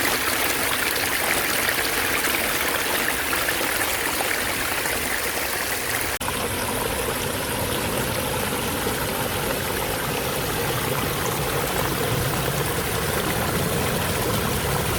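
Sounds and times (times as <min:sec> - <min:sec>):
stream babbling over rocks: 0:00.0 - 0:14.9.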